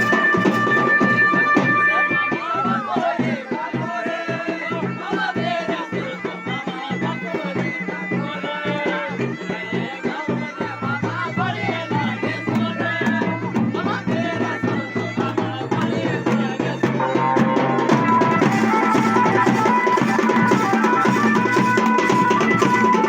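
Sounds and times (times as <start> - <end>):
wind instrument melody: 0.0 - 4.2, 5.2 - 23.0
drums beating fast rhythm: 0.0 - 23.0.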